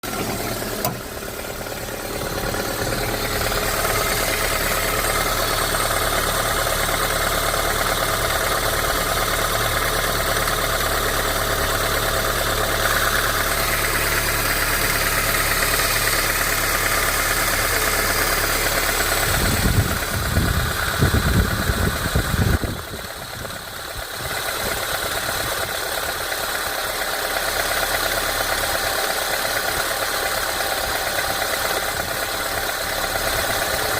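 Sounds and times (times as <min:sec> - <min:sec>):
engine idling with a knock: 0:00.0 - 0:33.9.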